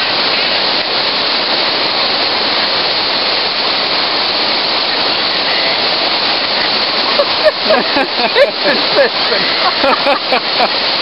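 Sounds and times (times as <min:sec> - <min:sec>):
river rapids rushing over rocks: 0:00.0 - 0:11.0.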